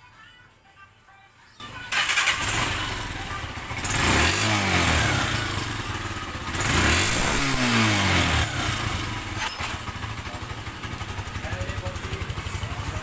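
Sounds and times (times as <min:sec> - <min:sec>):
motorcycle engine revving: 0:01.6 - 0:13.0.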